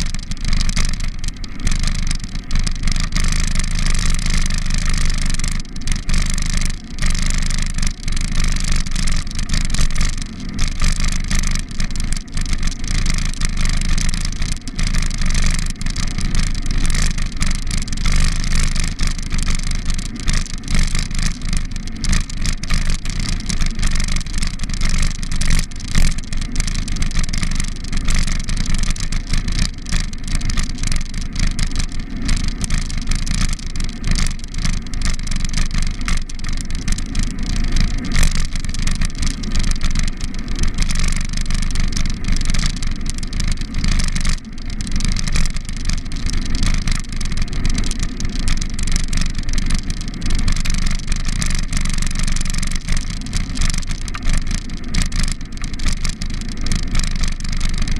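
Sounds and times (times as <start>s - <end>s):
bicycle knocks and rattles: 0.0s - 57.9s.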